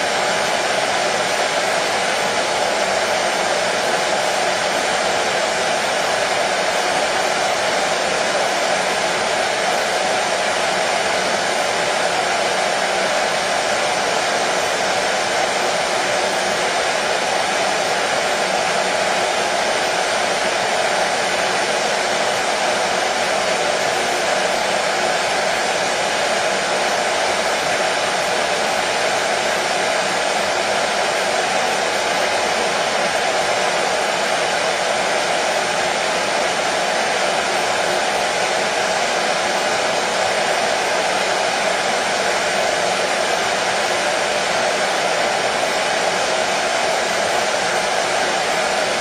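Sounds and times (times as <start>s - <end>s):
hair dryer blowing: 0.0s - 49.0s.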